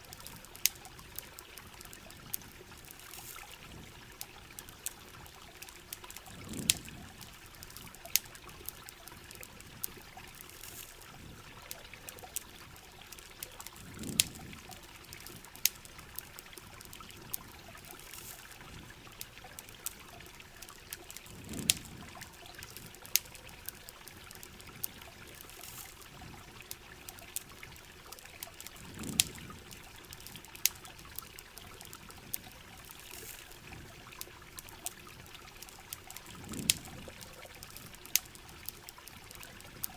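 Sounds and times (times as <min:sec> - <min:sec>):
campfire crackling and popping: 0:00.0 - 0:39.9
rain: 0:00.0 - 0:39.9
trickling water: 0:00.0 - 0:39.9.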